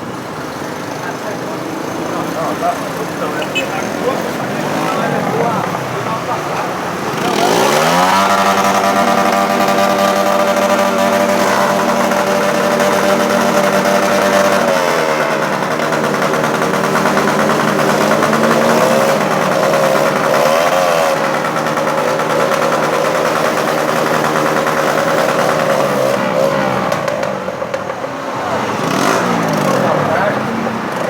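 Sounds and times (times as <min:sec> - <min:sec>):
motorcycle engines revving: 0:00.0 - 0:31.0.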